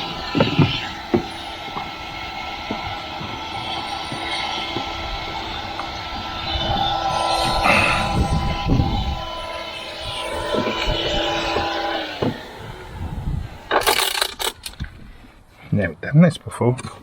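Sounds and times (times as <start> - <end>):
vacuum cleaner motor whining: 0.0 - 14.7.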